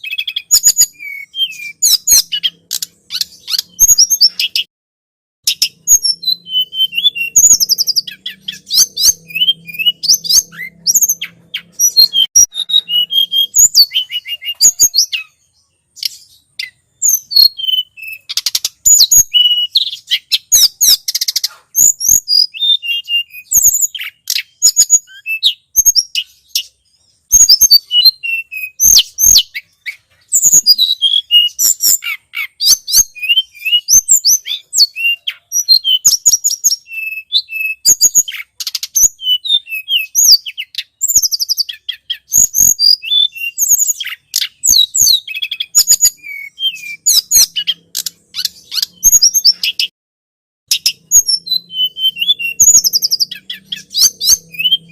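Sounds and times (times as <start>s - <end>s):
bird chirping high-pitched: 0.0s - 4.7s, 5.4s - 49.9s, 50.7s - 54.9s
sharp ticking bird notes: 0.0s - 4.7s, 5.4s - 49.9s, 50.7s - 54.9s.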